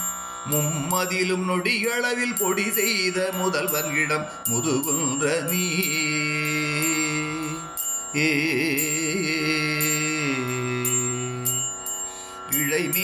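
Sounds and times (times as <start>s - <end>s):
man singing: 0.4s - 11.8s, 12.4s - 13.0s.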